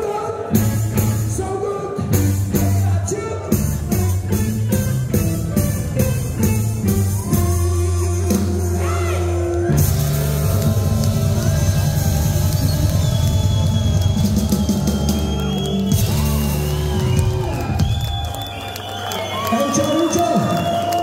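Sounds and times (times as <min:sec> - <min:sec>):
live rock band playing loudly: 0:00.5 - 0:18.1.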